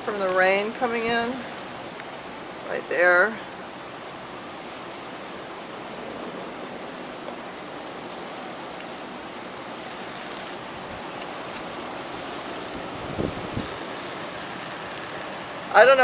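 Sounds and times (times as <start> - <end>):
heavy rain pouring: 0.0 - 16.0
strong wind: 0.0 - 16.0.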